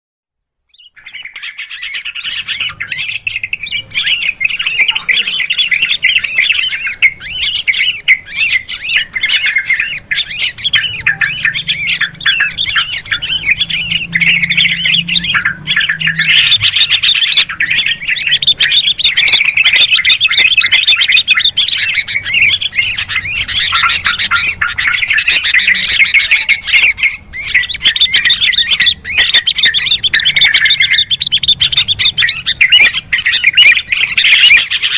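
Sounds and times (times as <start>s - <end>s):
bulbuls chattering calls: 0.7s - 34.9s.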